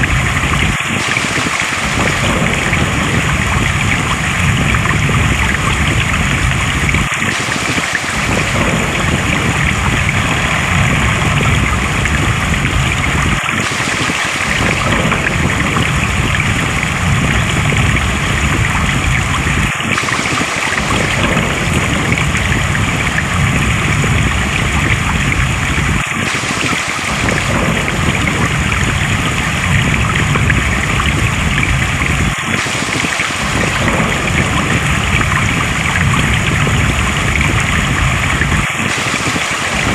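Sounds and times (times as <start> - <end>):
deep rumble: 0.0 - 0.8, 1.9 - 7.2, 8.2 - 13.7, 14.5 - 20.0, 20.8 - 26.3, 27.1 - 32.6, 33.4 - 38.8
stream water flowing: 0.0 - 39.9.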